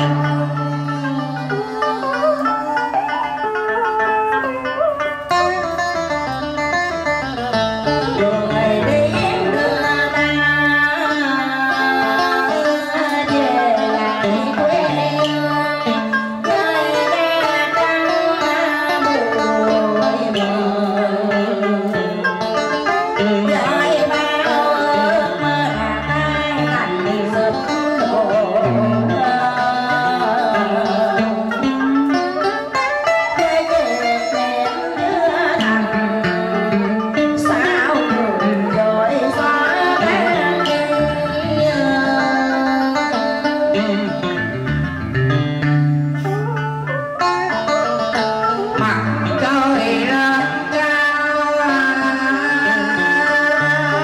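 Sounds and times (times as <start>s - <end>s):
plucked string melody: 0.0s - 54.0s.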